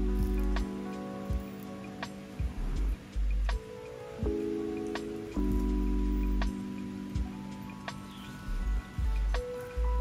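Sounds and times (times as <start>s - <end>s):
background music with deep bass: 0.0s - 10.0s.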